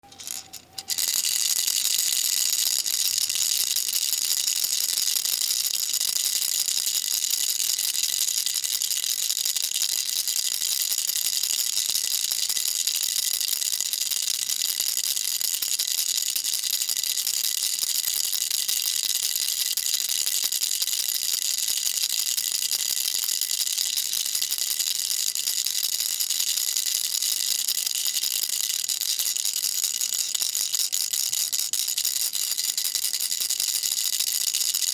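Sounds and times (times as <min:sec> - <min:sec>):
baby rattle shaken: 0:00.0 - 0:34.9.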